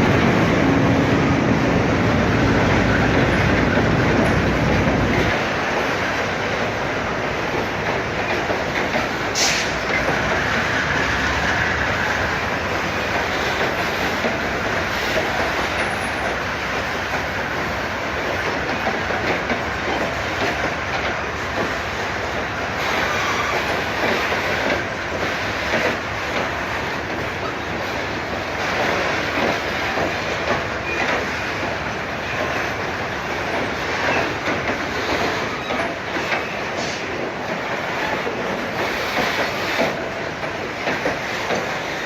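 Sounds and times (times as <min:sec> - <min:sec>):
train wheels on rails: 0:00.0 - 0:42.0.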